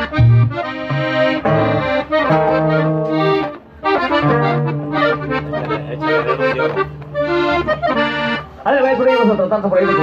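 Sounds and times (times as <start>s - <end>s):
steady bass line: 0.0s - 8.5s
accordion melody: 0.0s - 10.0s.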